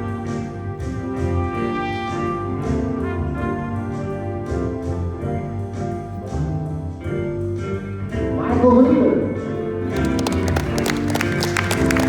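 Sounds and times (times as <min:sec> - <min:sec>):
jazz band playing: 0:00.0 - 0:12.0.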